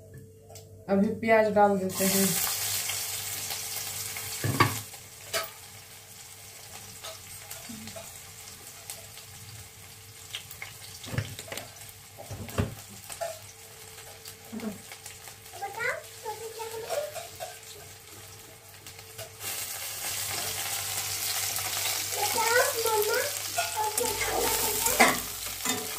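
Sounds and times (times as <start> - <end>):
oil sizzling in a pan: 1.9 - 25.9.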